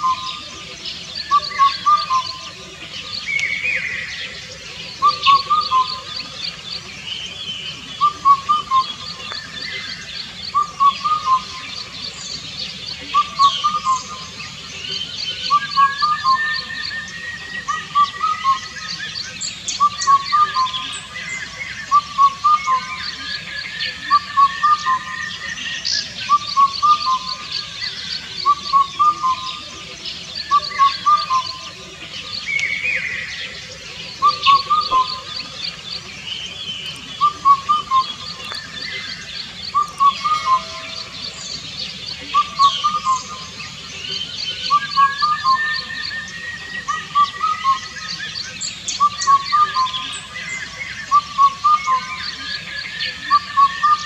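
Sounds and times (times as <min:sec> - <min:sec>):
birds chirping in background: 0:00.0 - 0:54.0.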